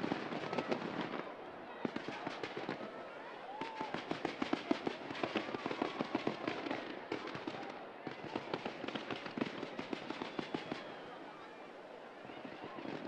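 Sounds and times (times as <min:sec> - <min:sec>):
fireworks bangs and crackles: 0:00.0 - 0:11.2, 0:12.2 - 0:13.0.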